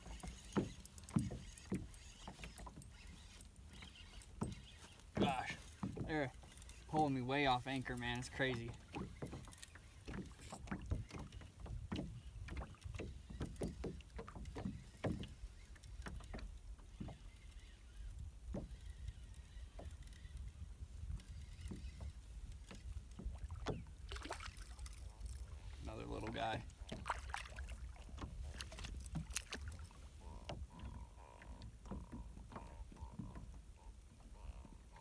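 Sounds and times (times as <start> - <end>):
waves lapping against boat hull: 0.0 - 35.0.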